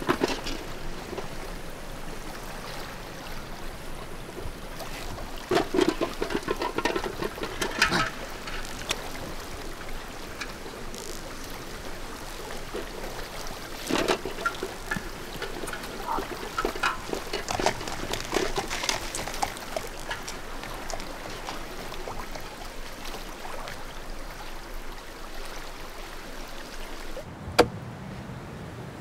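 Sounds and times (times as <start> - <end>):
stream running over rocks: 0.0 - 27.3
water splashing: 0.0 - 27.7.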